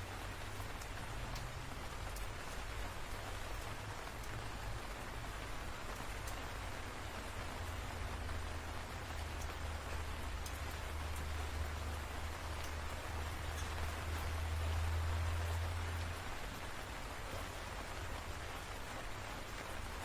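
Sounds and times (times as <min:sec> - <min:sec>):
raindrop ticks: 0:00.0 - 0:20.0
steady rain falling: 0:00.0 - 0:20.0.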